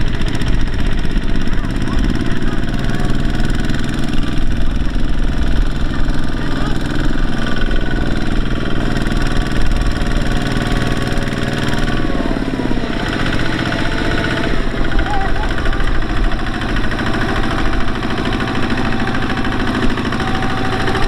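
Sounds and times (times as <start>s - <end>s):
diesel engine running steadily: 0.0s - 21.0s.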